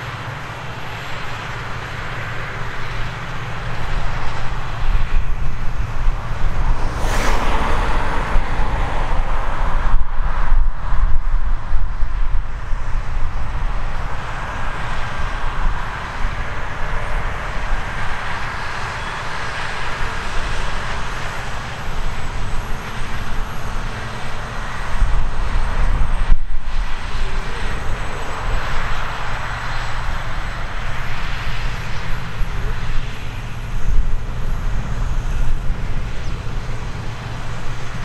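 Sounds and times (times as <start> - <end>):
combine harvester engine drone: 0.0 - 38.0.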